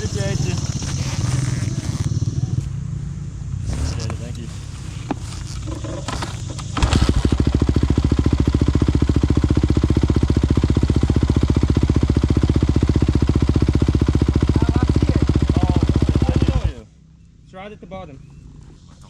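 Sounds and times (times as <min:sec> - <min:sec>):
dirt bike engine idling: 0:00.0 - 0:19.0.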